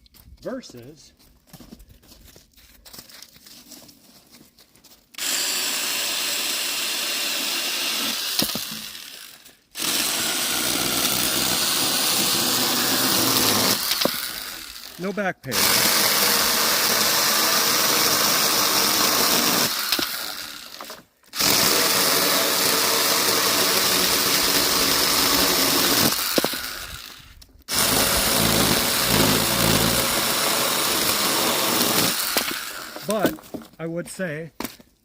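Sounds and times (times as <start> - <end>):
electric saw running: 5.2 - 33.3.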